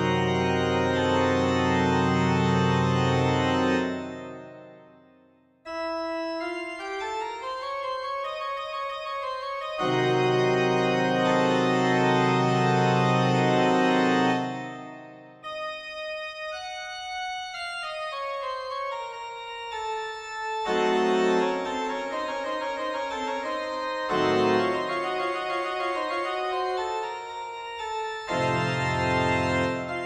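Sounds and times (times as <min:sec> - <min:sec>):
classical organ music: 0:00.0 - 0:05.0, 0:05.7 - 0:30.0.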